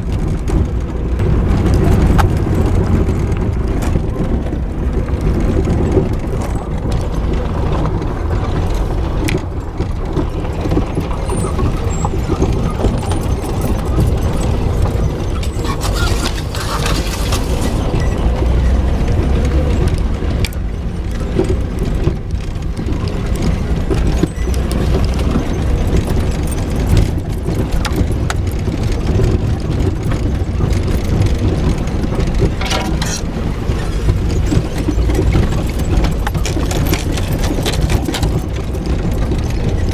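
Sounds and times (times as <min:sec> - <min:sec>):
knocks and rattles: 0:00.0 - 0:39.9
low engine rumble: 0:00.0 - 0:39.9.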